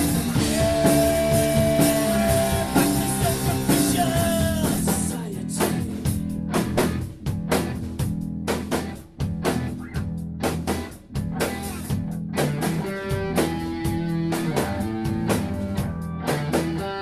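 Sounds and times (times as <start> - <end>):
bass guitar: 0.0 - 17.0
drum kit steady beat: 0.0 - 17.0
electric guitar: 0.0 - 17.0.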